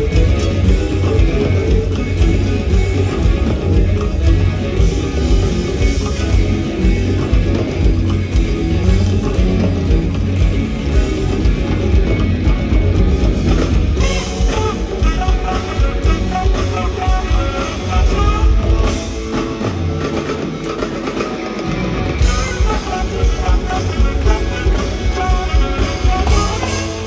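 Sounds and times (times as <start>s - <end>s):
lead electric guitar runs: 0.0s - 27.0s
live rock band playing: 0.0s - 27.0s.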